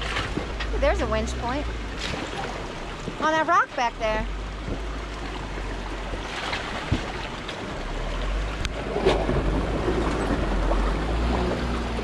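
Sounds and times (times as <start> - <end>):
vehicle engine rumble: 0.0 - 12.0
water rushing over rocks: 0.0 - 12.0.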